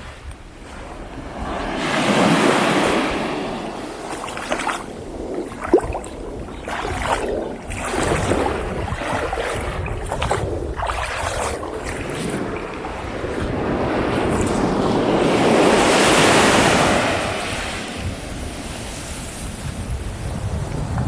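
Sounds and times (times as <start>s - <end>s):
wind rumble on microphone: 0.0s - 21.0s
surf breaking on beach: 0.6s - 21.0s.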